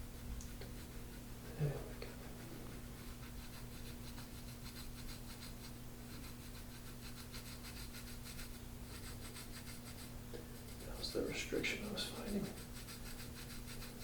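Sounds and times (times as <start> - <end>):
rubbing strokes on skin: 0.0 - 14.0
steady low hum: 0.0 - 14.0.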